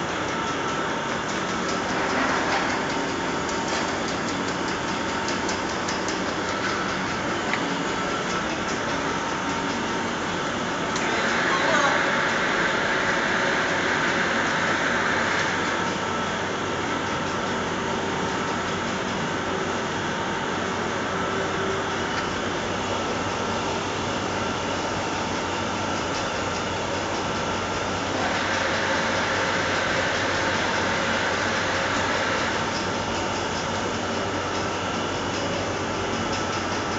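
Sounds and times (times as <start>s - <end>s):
motors and rollers turning: 0.0s - 36.9s.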